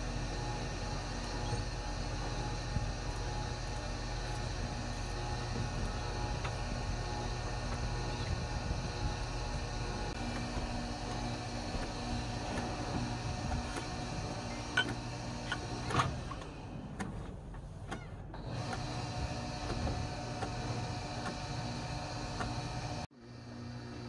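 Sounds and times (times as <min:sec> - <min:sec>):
boat engine hum: 0:00.0 - 0:24.0.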